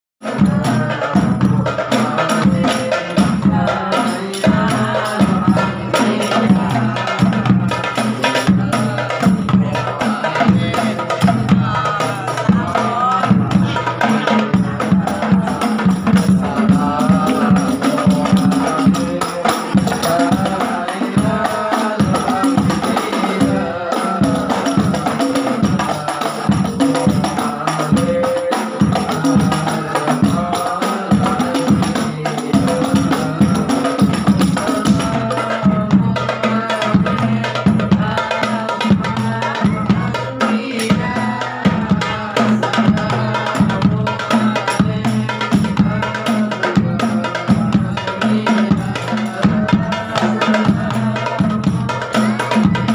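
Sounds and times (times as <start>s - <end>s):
frame drums playing fast rhythm: 0.2s - 52.9s
voices singing: 0.2s - 52.9s.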